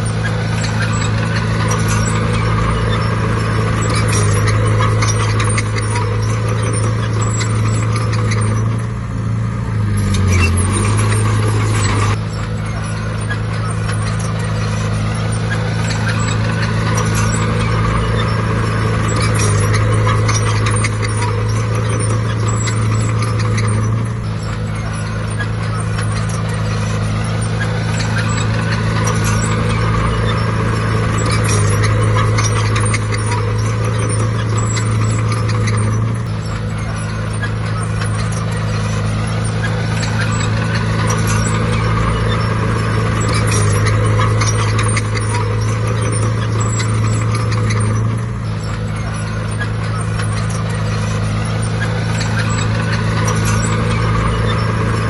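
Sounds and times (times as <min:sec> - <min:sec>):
bulldozer diesel engine running: 0:00.0 - 0:55.0
clanking rattle of metal parts: 0:00.0 - 0:55.0.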